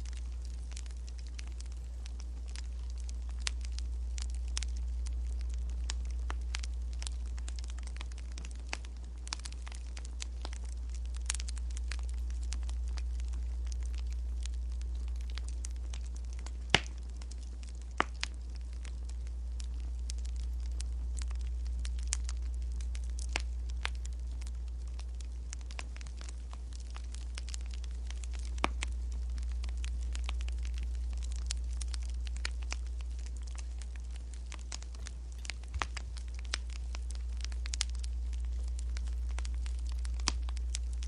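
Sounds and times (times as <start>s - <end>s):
sharp fire pops: 0.0s - 41.0s
wood fire crackling: 0.0s - 41.0s.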